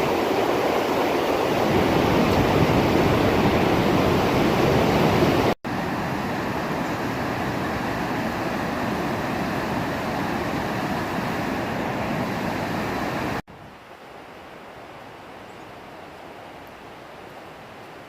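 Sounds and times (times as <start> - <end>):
water rushing down a brook: 0.0 - 15.3.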